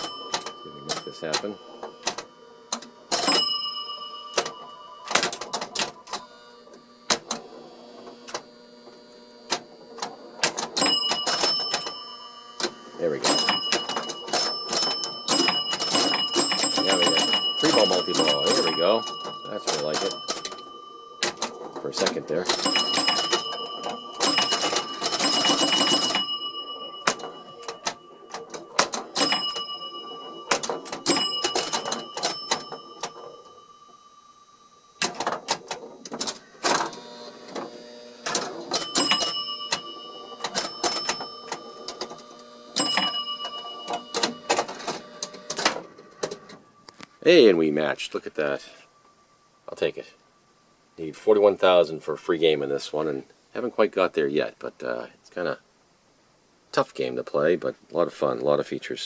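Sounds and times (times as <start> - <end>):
pinball machine clacking: 0.0 - 48.6
pinball scoring bells ringing: 0.0 - 52.6.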